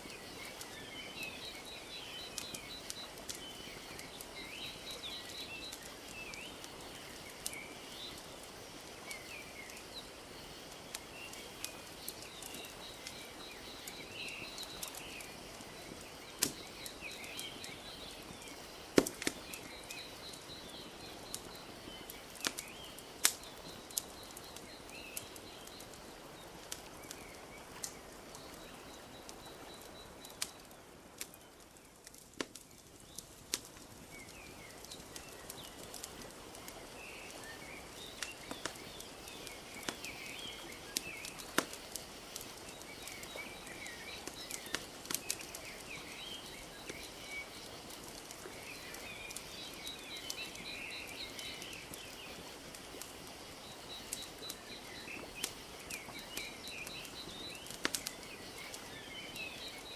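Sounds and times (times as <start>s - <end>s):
small birds chirping: 0.0s - 59.9s
wood fire crackling: 0.0s - 59.9s.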